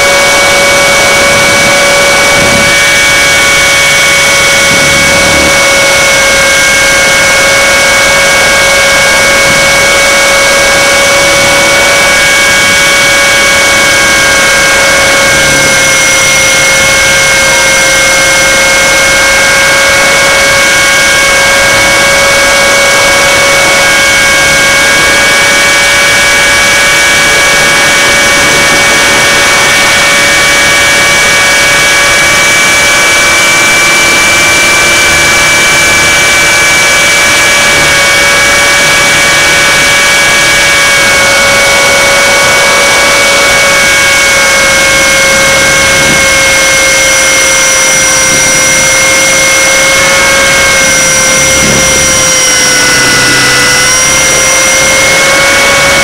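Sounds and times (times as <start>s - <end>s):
high-pitched drive whine: 0.0s - 56.0s
rotor rushing noise: 0.0s - 56.0s.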